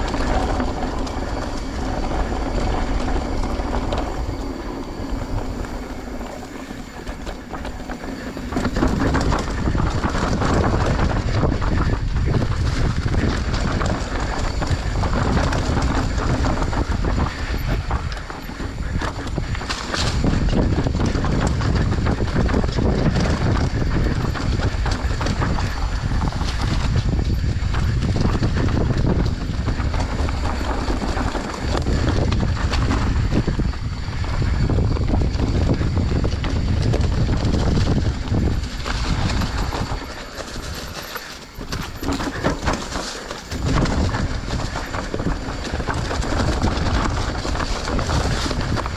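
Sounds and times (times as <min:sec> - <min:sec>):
motorbike rattling and knocking: 0:00.0 - 0:48.9
wind noise on microphone: 0:00.0 - 0:48.9.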